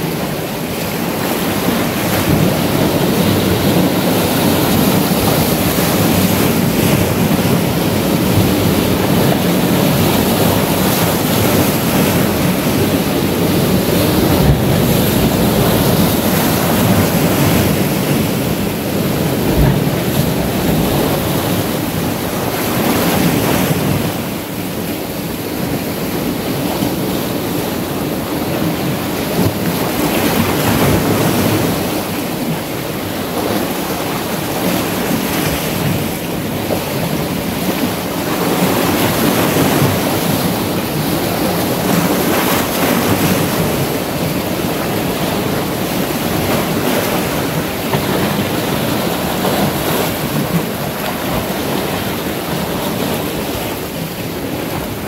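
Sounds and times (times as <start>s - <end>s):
surf washing around boulders: 0.0s - 55.0s.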